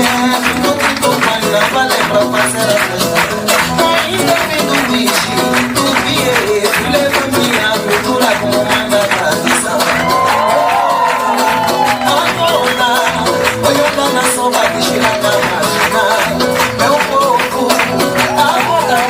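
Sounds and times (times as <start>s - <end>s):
band music with steady beat: 0.0s - 19.0s.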